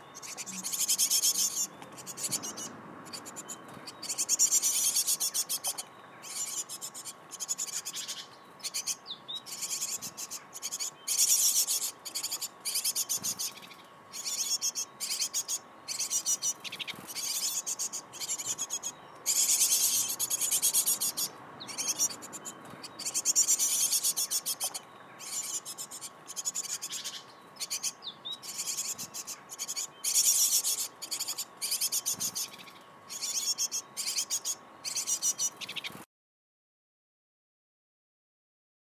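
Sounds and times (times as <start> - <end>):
nestlings begging raspy hisses: 0.2 - 22.4, 23.0 - 35.8.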